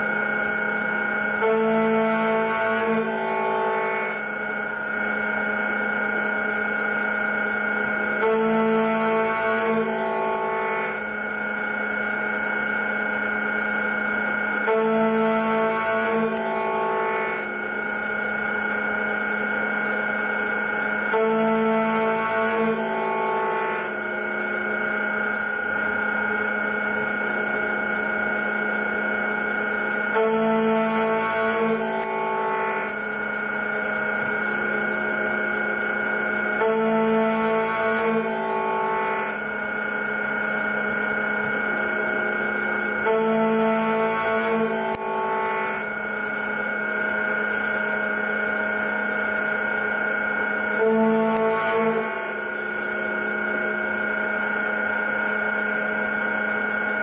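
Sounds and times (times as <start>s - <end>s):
machine whine: 0.0s - 57.0s.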